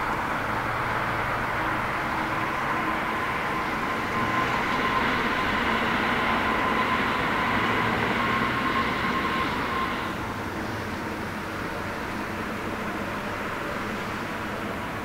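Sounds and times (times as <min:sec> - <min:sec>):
jet engines with high whine: 0:00.0 - 0:15.0.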